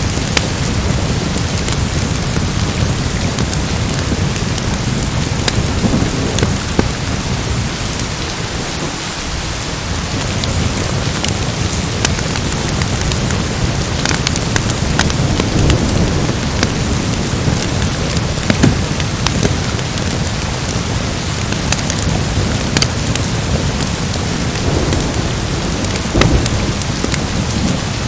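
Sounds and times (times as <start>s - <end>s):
sharp crackles and pops: 0.0s - 8.9s, 10.1s - 28.0s
steady rain: 0.0s - 28.0s.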